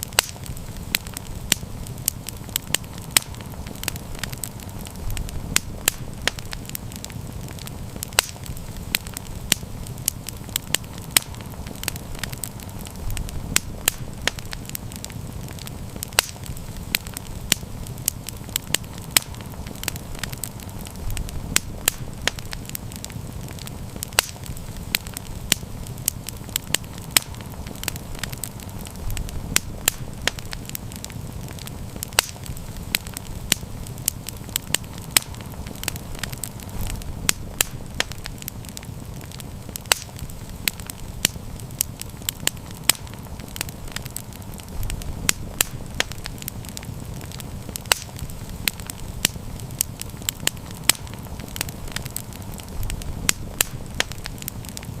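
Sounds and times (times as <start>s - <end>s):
campfire crackling and popping: 0.0s - 55.0s
low rumble of fire: 0.0s - 55.0s.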